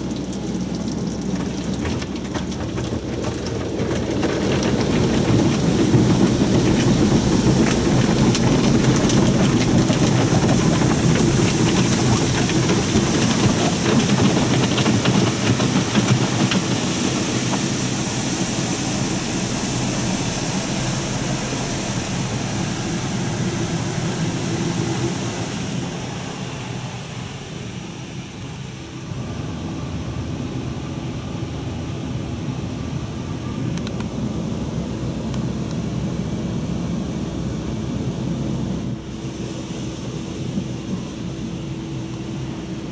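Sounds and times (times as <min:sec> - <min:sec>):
car wash water spray and machinery: 0:00.0 - 0:42.9.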